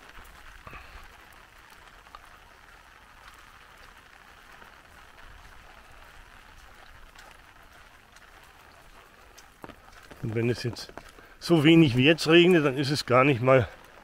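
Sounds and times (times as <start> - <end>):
light rain falling: 0.0 - 14.0
raindrops ticking: 0.0 - 14.0.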